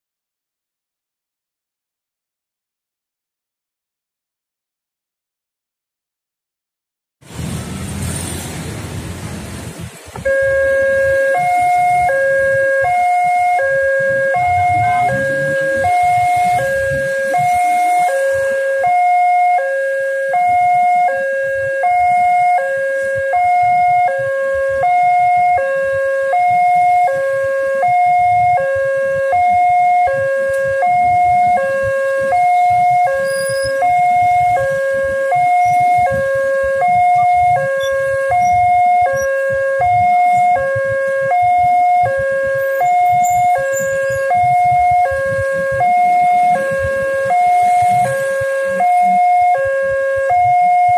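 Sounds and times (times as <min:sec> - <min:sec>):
two-tone crossing alarm: 0:10.1 - 0:50.9.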